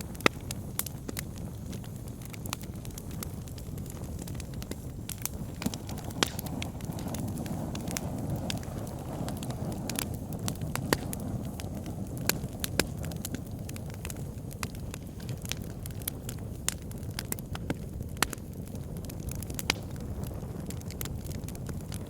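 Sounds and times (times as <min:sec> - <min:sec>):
fire crackling and popping: 0:00.0 - 0:22.0
roar of flames: 0:00.0 - 0:22.0.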